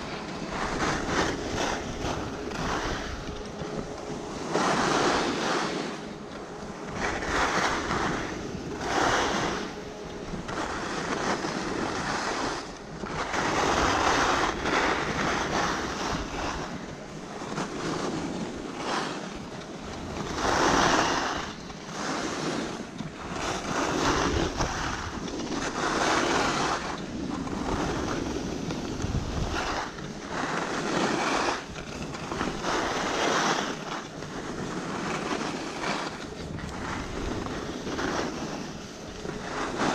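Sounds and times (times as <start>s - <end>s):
skis scraping over snow: 0.0s - 39.9s
wind rushing over microphone: 0.0s - 39.9s.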